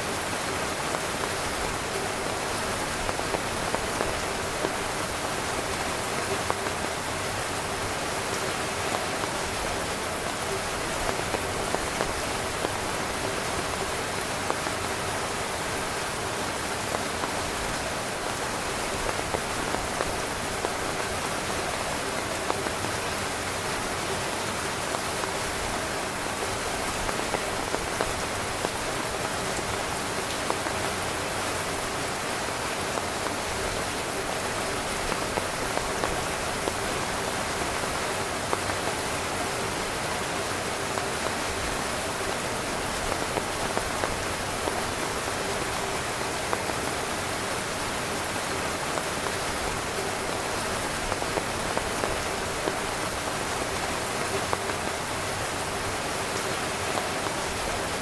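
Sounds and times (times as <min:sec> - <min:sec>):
heavy rain on tent fabric: 0:00.0 - 0:58.0.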